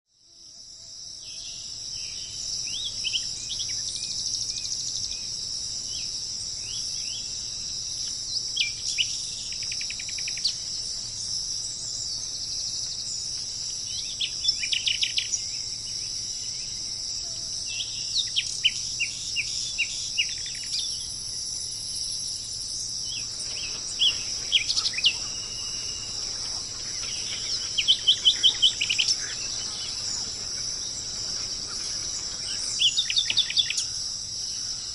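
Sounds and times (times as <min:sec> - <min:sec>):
high-pitched insect drone: 0:00.2 - 0:34.9
songbirds chirping: 0:00.6 - 0:34.9.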